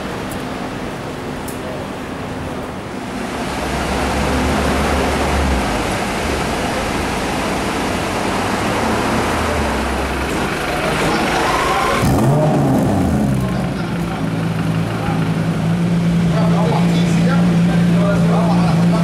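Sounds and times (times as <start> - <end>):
car engine idling: 0.0 - 19.0
street noise: 0.0 - 19.0.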